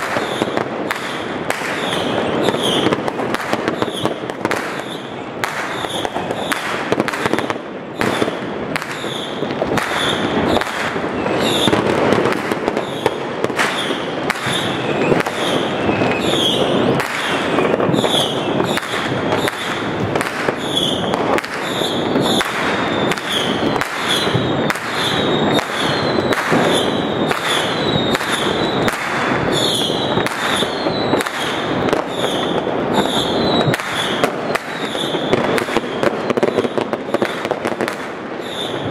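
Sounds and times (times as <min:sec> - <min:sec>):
firecracker bangs: 0:00.0 - 0:38.9
fireworks crackling: 0:00.0 - 0:38.9.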